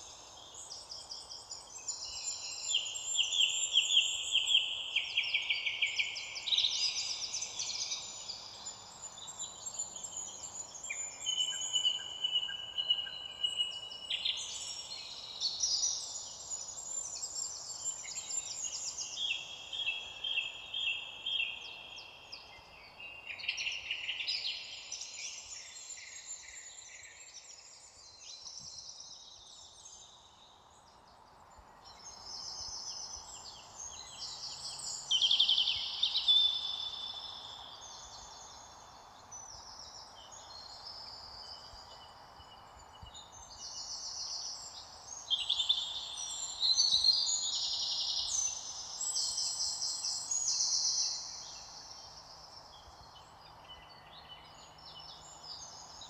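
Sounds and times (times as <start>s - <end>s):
faint outdoor hiss: 0.0s - 56.0s
songbirds trilling and chirping: 0.0s - 56.0s.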